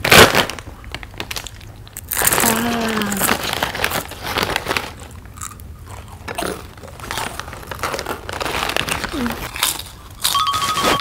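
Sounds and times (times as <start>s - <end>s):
crunching crisp snack food: 0.0s - 11.0s.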